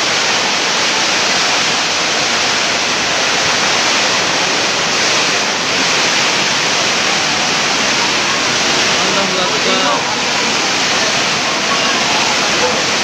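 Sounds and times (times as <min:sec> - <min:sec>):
hail and heavy rain: 0:00.0 - 0:13.0
strong wind: 0:00.0 - 0:13.0.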